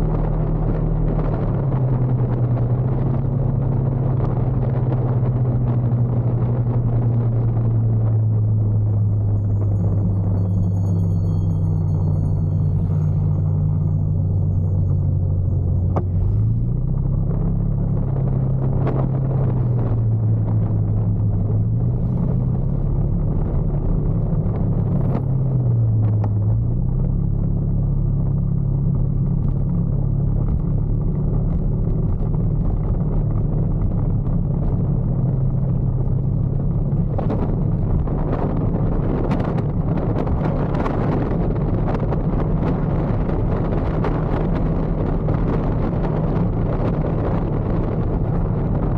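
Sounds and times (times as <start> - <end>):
motorcycle engine running: 0.0 - 48.9
road and wind rumble: 0.0 - 48.9.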